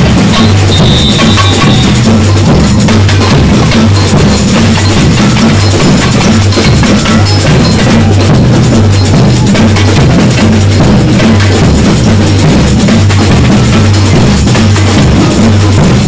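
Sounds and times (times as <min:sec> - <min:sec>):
deep bass drums beating: 0:00.0 - 0:16.0
samba drum group playing: 0:00.0 - 0:16.0
snare drums: 0:00.0 - 0:16.0.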